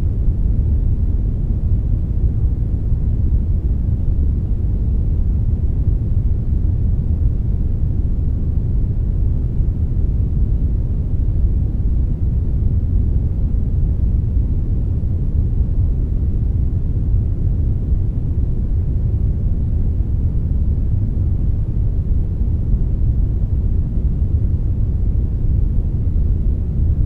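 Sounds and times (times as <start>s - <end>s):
steady brownish noise: 0.0s - 27.0s.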